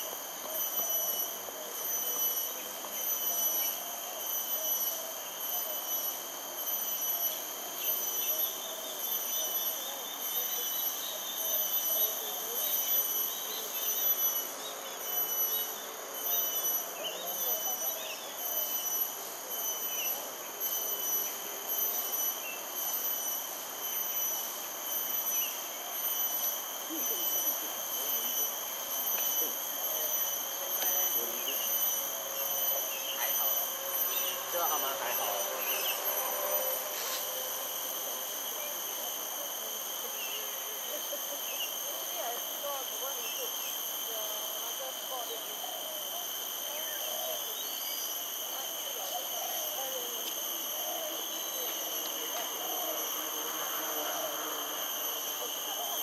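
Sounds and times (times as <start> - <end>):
faint chirps: 0.0 - 56.0
insects droning: 0.0 - 56.0.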